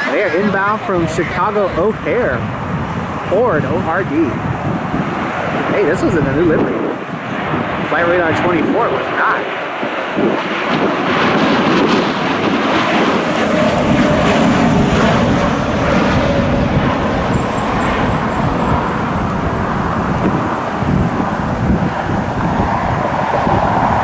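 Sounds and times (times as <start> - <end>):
jet engines of airliner: 0.0 - 24.0.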